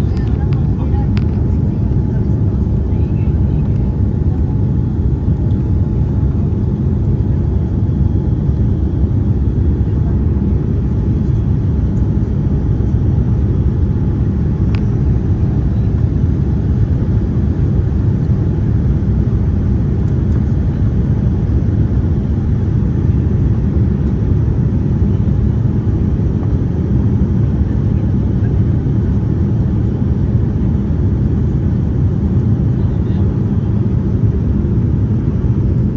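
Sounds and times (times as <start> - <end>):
jet engines rumbling in cabin: 0.0 - 35.9.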